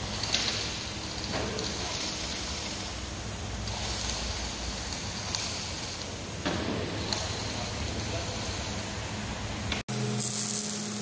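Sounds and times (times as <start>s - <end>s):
even hiss: 0.0s - 9.7s
low machine hum: 0.0s - 11.0s.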